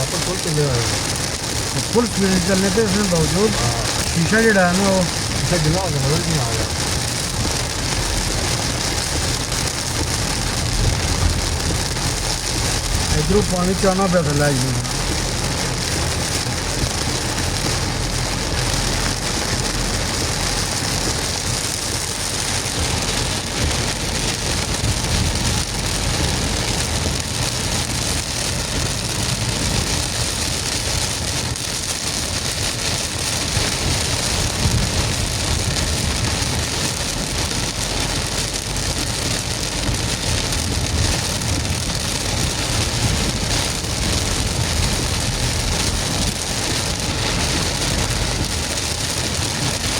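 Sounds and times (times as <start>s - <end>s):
heavy rain falling: 0.0s - 49.9s
vehicle driving rumble: 0.0s - 49.9s.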